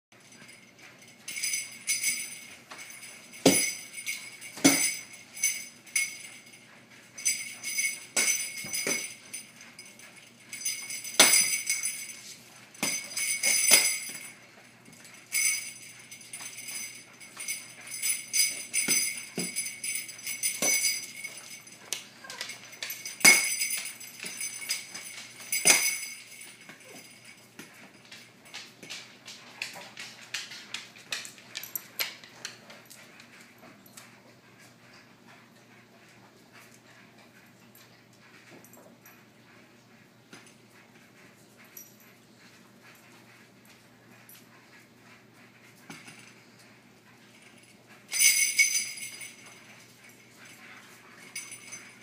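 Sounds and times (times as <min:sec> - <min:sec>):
bells jangling: 0:00.2 - 0:34.2, 0:37.7 - 0:52.0.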